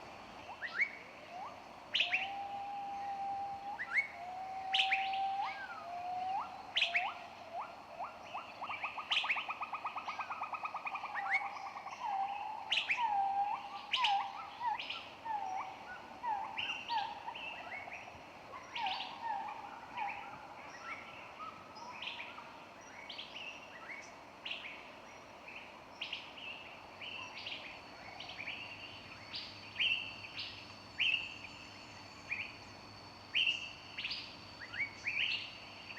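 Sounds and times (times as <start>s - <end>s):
whistled bird song: 0.5s - 24.8s, 27.0s - 35.9s.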